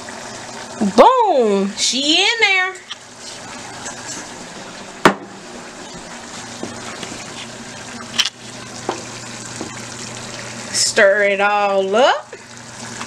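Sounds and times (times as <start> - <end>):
pot simmering hiss: 0.0 - 13.0.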